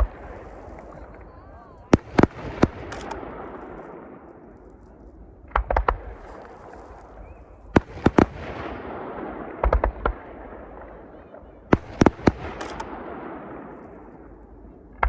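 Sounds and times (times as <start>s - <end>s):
fireworks bursting: 0.0s - 14.5s
continuous rumble: 0.0s - 15.0s.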